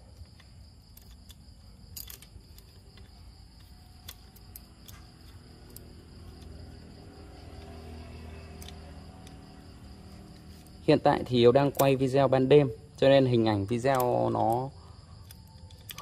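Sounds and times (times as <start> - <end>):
metallic clicks of engine parts: 0.0 - 12.4, 13.0 - 16.0
crickets chirring: 0.0 - 16.0.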